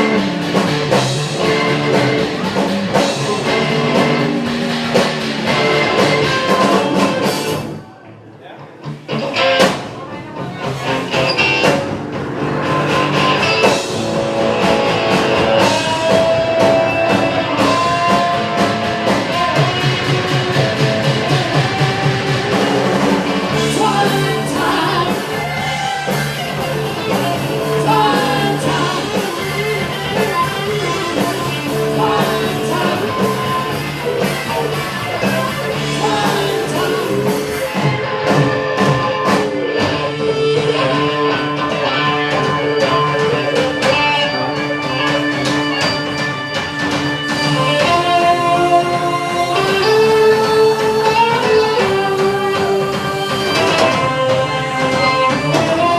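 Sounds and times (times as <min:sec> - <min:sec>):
person singing: 0:00.0 - 0:07.6, 0:15.1 - 0:55.9
bass guitar: 0:00.0 - 0:55.9
drums: 0:00.0 - 0:55.9
electric guitar: 0:00.0 - 0:55.9.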